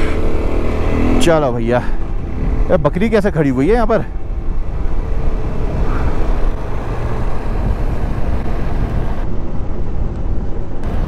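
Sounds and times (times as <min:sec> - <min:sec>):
motorcycle engine running: 0:00.0 - 0:09.2
wind buffeting microphone: 0:00.3 - 0:11.0.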